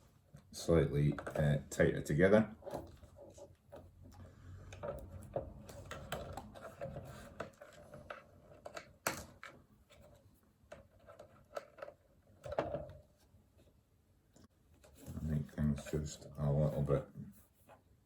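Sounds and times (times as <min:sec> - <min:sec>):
hands working wire and cable parts: 0:00.0 - 0:18.0.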